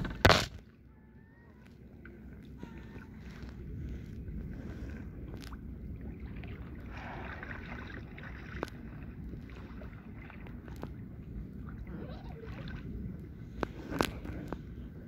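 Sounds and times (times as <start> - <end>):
water lapping against kayak hull: 0.0 - 15.0
wind rumble on microphone: 0.0 - 15.0.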